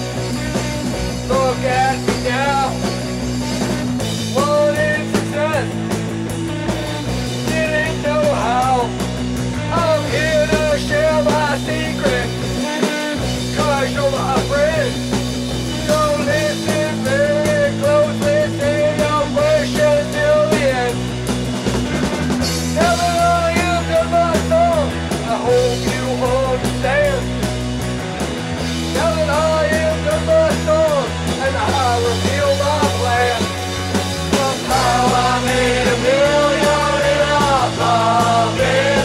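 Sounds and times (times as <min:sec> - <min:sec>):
rock band music: 0:00.0 - 0:39.0.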